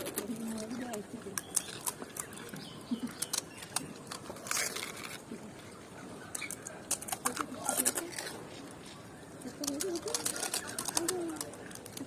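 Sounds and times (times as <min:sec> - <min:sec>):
crunching of crisp shells: 0:00.0 - 0:12.0.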